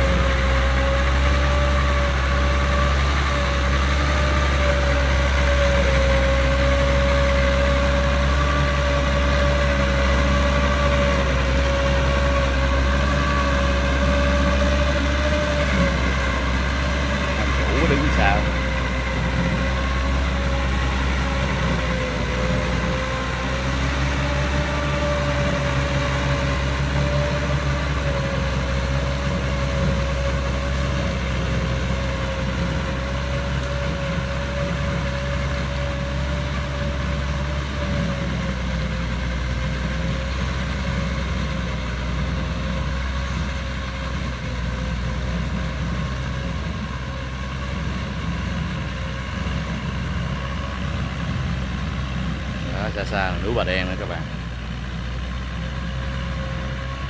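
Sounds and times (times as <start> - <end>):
rotary tiller whine: 0.0 - 57.0
tractor diesel engine under load: 0.0 - 57.0.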